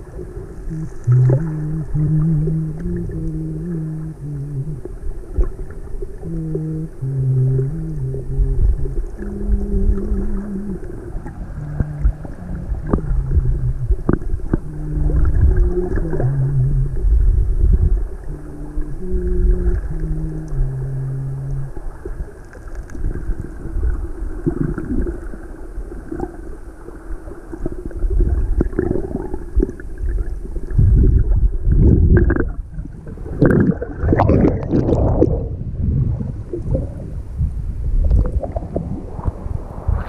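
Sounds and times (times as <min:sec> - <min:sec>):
sea water sloshing and splashing: 0:00.0 - 0:40.0.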